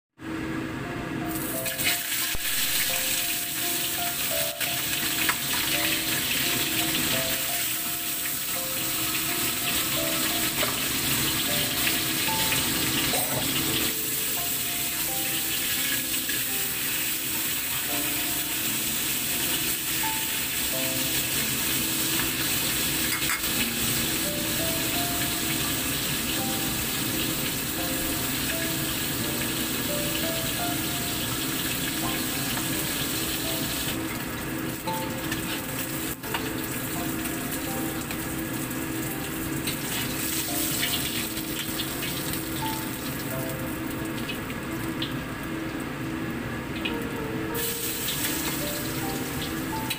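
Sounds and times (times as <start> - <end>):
fish sizzling in hot oil: 1.3 - 45.1, 47.5 - 49.9.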